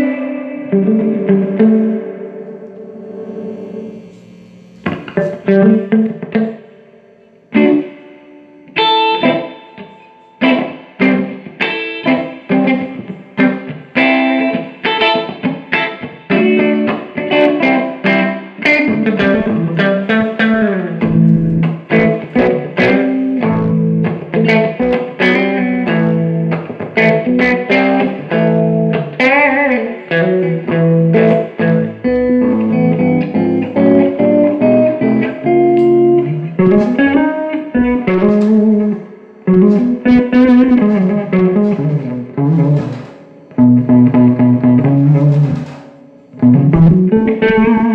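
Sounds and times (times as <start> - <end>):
electric guitar notes with bends: 0.0 - 47.9.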